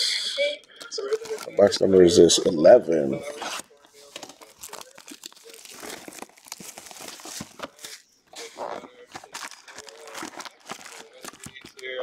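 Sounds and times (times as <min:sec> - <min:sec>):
plastic and foil wrapping rustling: 0:01.0 - 0:02.5, 0:03.2 - 0:12.0.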